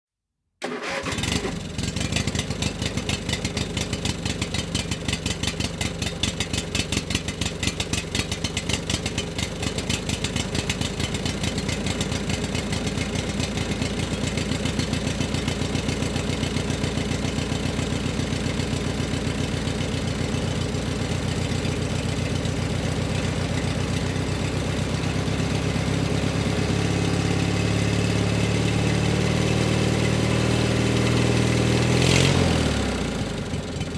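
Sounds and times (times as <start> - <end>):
motor engine starting and running: 0.6 - 33.9.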